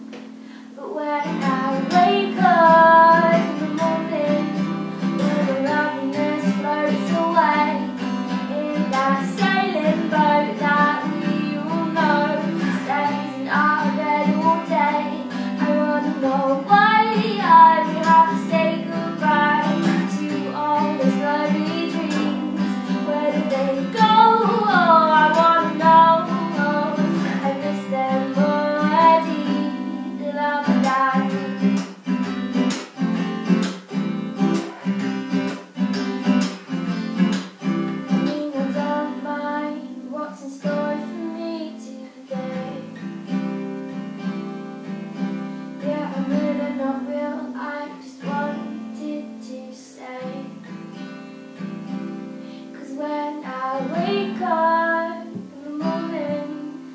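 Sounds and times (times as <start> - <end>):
acoustic guitar strumming: 0.0 - 56.9
woman singing: 0.6 - 31.8, 38.1 - 43.3, 45.8 - 51.0, 52.6 - 56.9.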